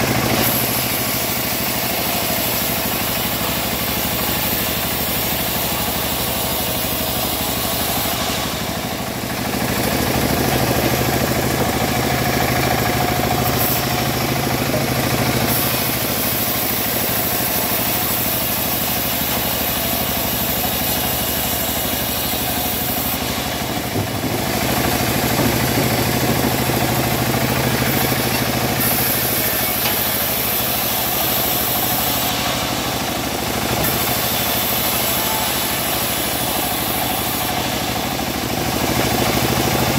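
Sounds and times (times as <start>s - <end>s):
band saw ripping through log: 0.0s - 39.9s
machine hum: 5.2s - 39.9s.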